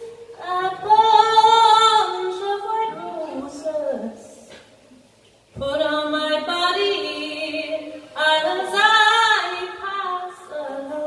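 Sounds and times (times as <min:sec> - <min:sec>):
woman singing folk ballad: 0:00.0 - 0:04.5, 0:05.6 - 0:11.0.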